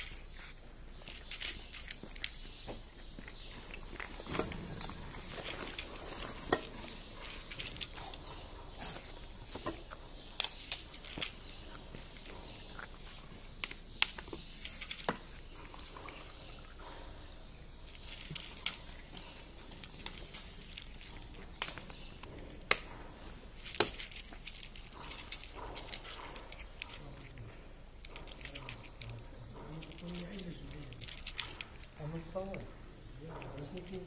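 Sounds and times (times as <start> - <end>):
cat crunching dry kibble: 0.0 - 34.0
kibble clicking on a plate: 0.0 - 34.0.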